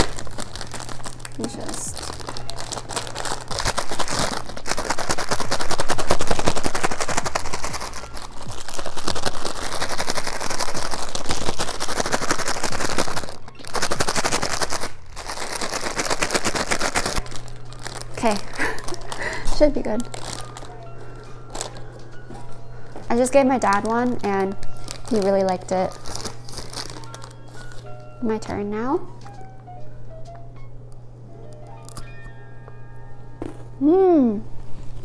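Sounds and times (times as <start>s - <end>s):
snack bag shaken with rattling contents: 0.0s - 28.2s.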